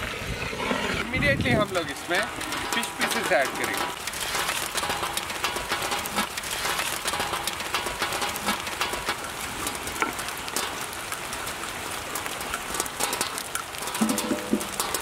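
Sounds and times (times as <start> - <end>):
curry boiling in a pot: 0.0 - 15.0.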